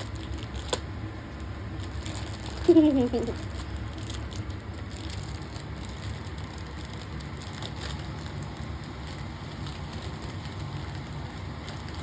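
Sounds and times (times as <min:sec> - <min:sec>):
low background hum: 0:00.0 - 0:12.0
plastic packaging rustling: 0:00.0 - 0:12.0.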